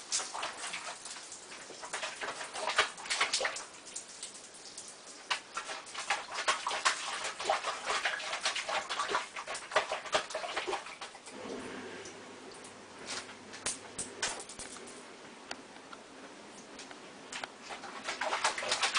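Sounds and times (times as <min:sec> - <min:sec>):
water splashing in a sink: 0:00.0 - 0:15.0, 0:16.6 - 0:18.9.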